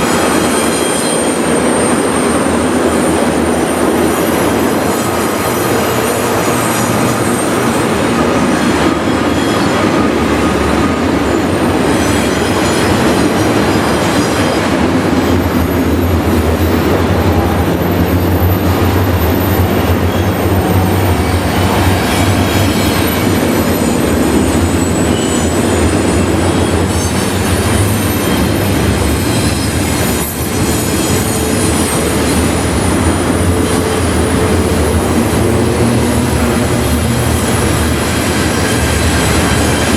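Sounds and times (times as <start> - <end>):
high-pitched wheel squeal: 0.0 - 14.7, 15.3 - 39.9
train wheels rumbling on rails: 0.0 - 39.9.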